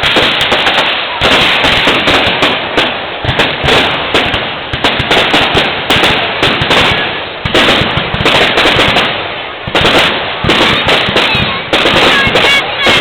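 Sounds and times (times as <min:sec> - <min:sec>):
fireworks crackling pops and bangs: 0:00.0 - 0:13.0.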